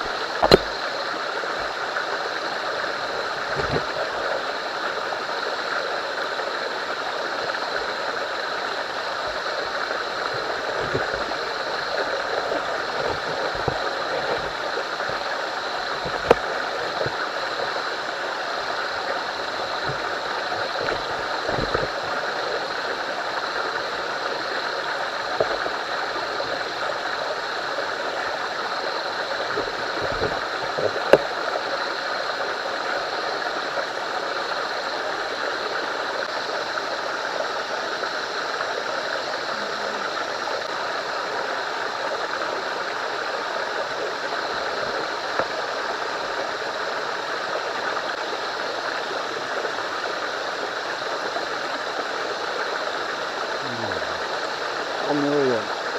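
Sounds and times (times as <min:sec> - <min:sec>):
running stream: 0:00.0 - 0:55.9.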